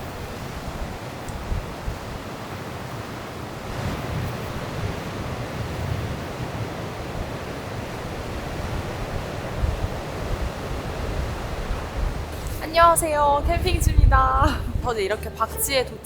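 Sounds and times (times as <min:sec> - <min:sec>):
sea waves washing onto shore: 0:00.0 - 0:13.7
wind buffeting microphone: 0:00.0 - 0:15.8.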